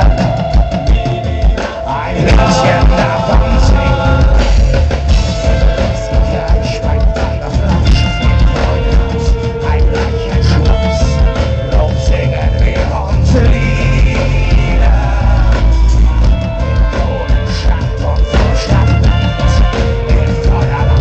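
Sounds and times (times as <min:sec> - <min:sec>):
metal band playing live: 0:00.0 - 0:21.0.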